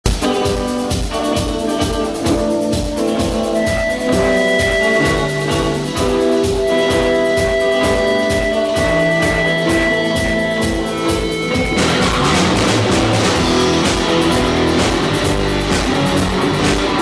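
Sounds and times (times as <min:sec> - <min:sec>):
held instrumental notes: 0:00.0 - 0:17.0
music with steady drum beat: 0:00.0 - 0:17.0.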